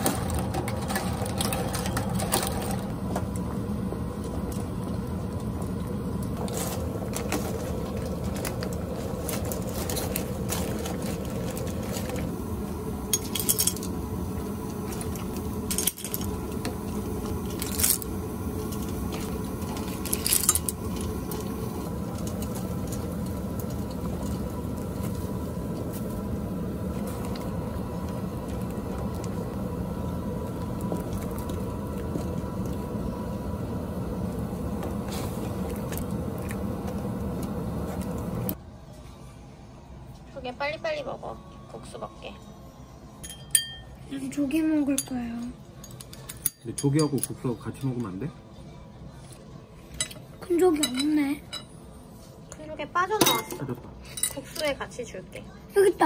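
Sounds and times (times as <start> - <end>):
steady low hum: 0.0 - 46.6.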